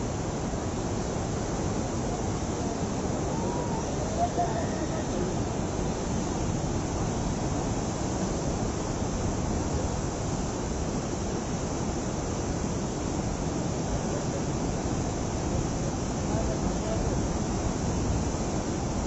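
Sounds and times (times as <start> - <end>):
river rushing in flood: 0.0 - 19.0.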